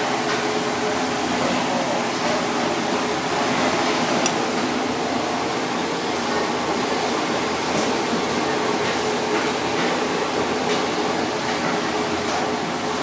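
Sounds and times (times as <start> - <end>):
ventilation fan whirring: 0.0 - 13.0.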